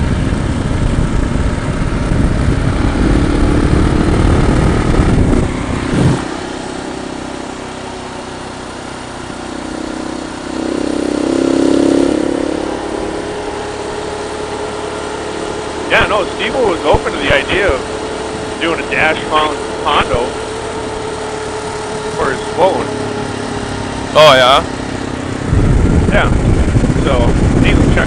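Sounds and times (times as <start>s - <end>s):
motorcycle engine rumbling: 0.0s - 28.0s.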